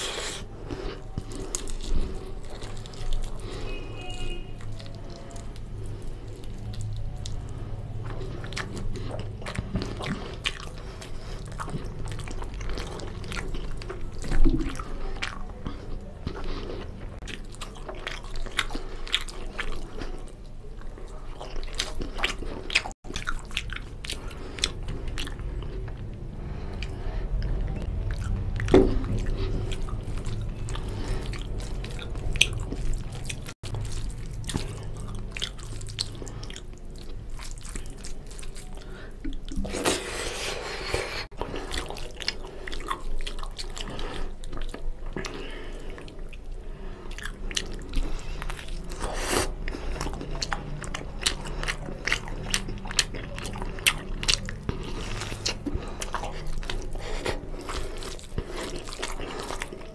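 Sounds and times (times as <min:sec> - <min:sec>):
chewing with smacking mouth: 0:00.0 - 0:59.9.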